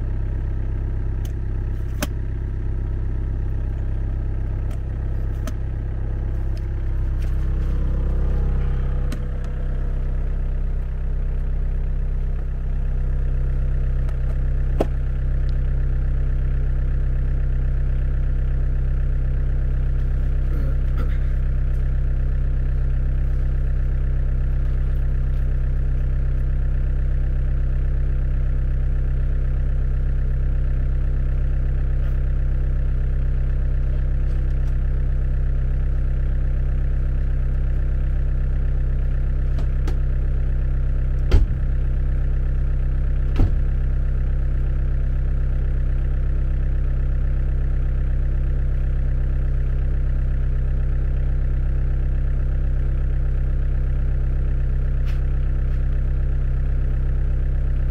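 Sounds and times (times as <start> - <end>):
diesel engine idling: 0.0 - 57.9.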